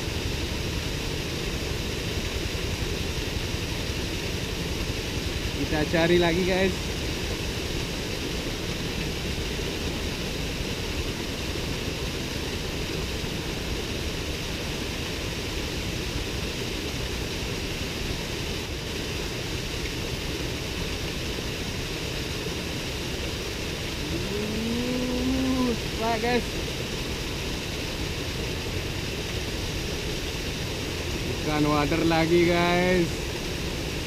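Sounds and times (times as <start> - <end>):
waterfall pouring into a stream: 0.0 - 34.0.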